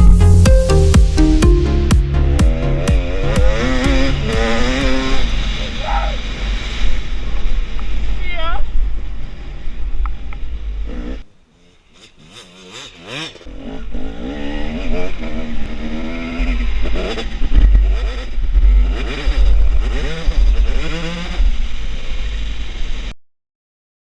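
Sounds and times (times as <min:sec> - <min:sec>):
dirt bike engine revving: 0:01.0 - 0:08.1, 0:10.6 - 0:23.1.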